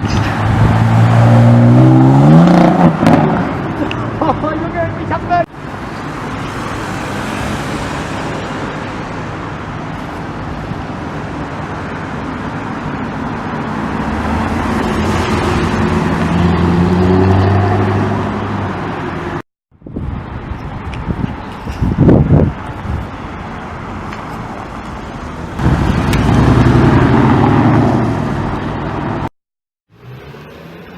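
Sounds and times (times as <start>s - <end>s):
street traffic: 0.0s - 29.3s, 29.9s - 30.9s.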